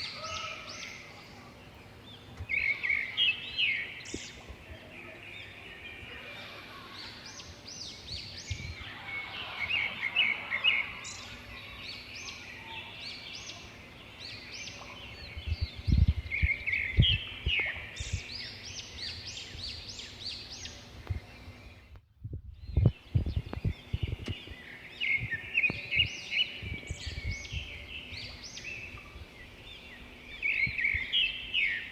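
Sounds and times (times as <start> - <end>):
small birds singing: 0.0 - 31.9.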